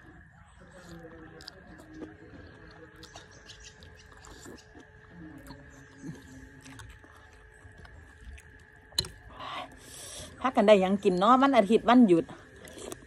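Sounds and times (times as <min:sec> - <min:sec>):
noodles slurped and chewed: 0:00.0 - 0:10.3, 0:12.4 - 0:13.0.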